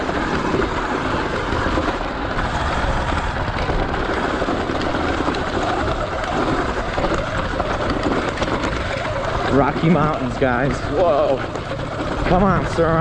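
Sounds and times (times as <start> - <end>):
tyres on gravel and stones: 0.0 - 13.0
wind rushing: 0.0 - 13.0.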